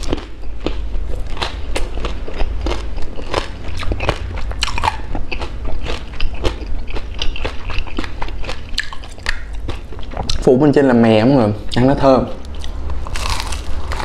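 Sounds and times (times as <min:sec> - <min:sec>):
crunchy chewing: 0:00.0 - 0:10.5, 0:12.4 - 0:14.0.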